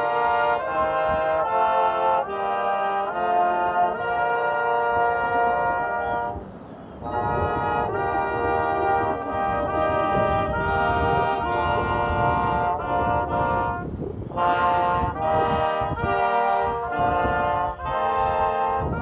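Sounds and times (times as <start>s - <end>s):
brass band playing slow chords: 0.0s - 19.0s.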